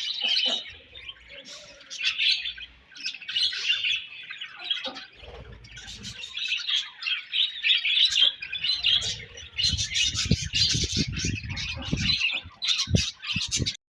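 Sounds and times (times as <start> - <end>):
budgerigars chirping and warbling: 0.0 - 13.8.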